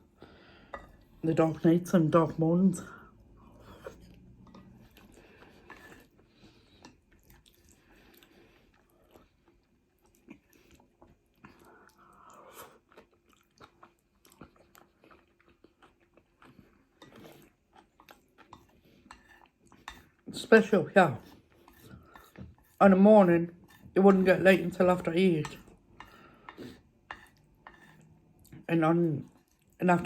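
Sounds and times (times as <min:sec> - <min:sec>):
chewing and crunching food: 0:02.8 - 0:30.0.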